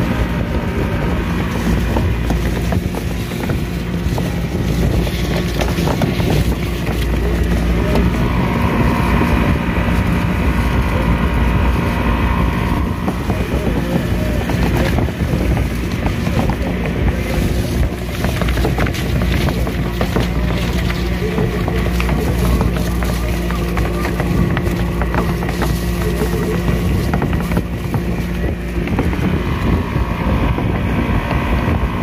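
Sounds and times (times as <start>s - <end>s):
boat engine running: 0.0s - 32.0s
wind buffeting microphone: 0.0s - 32.0s.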